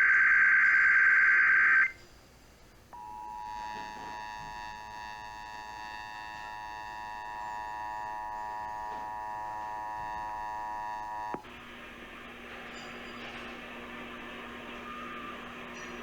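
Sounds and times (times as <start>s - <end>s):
radio hiss: 3.0s - 16.0s.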